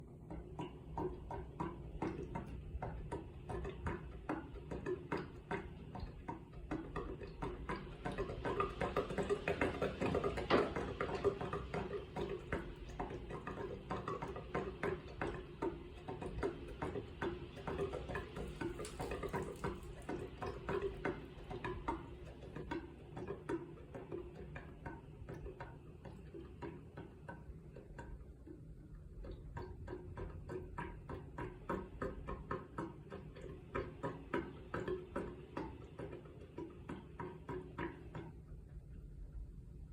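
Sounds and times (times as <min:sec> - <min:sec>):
air conditioner running hum: 0:00.0 - 0:39.9
irregular ticking clicks: 0:00.0 - 0:39.9.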